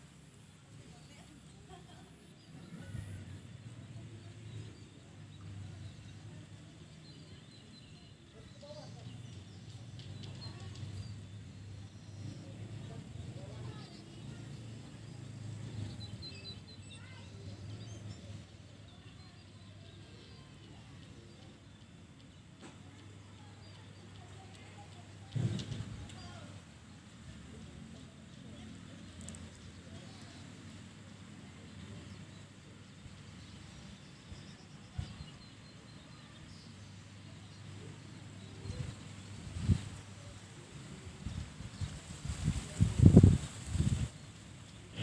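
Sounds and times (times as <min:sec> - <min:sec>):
small birds chirping: 0:00.1 - 0:45.0.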